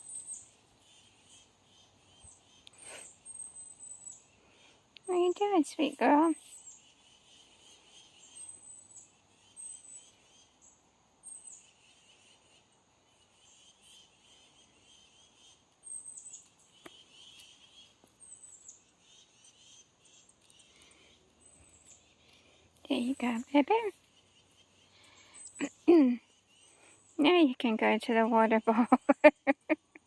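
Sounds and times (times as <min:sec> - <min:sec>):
soft bird twittering: 0:00.0 - 0:27.7
bird chirps: 0:00.0 - 0:30.0.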